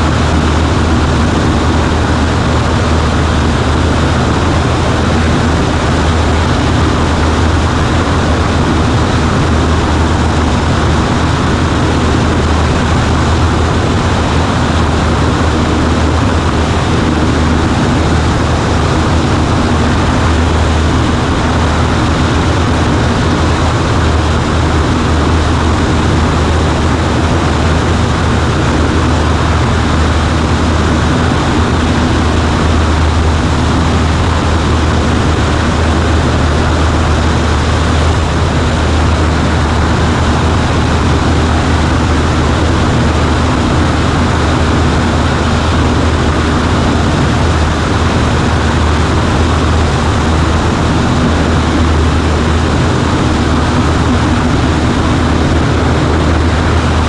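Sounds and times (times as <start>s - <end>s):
airplane propeller engine droning: 0.0s - 57.0s.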